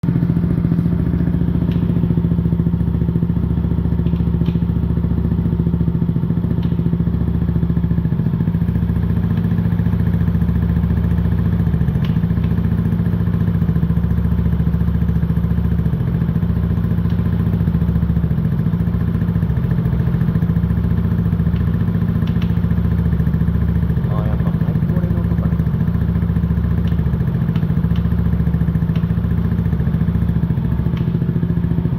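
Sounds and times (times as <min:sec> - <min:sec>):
scooter engine idling: 0:00.0 - 0:31.9.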